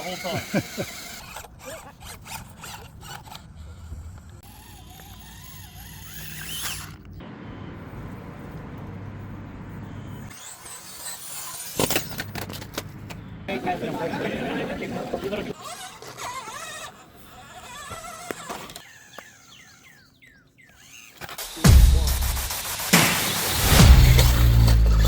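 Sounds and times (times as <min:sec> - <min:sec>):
chassis and tyres clicking: 0:00.0 - 0:25.0
electric motor whining: 0:00.0 - 0:25.0.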